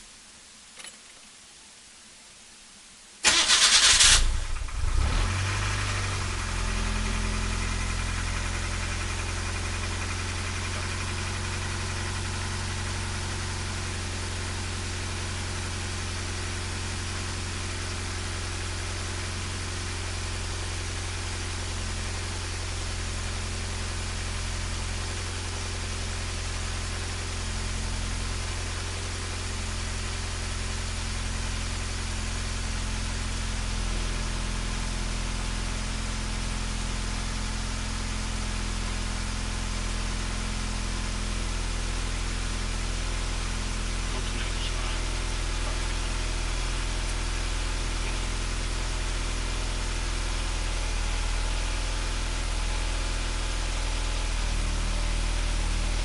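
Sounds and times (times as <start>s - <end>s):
car engine cranking and idling: 3.2s - 30.8s, 31.6s - 56.0s.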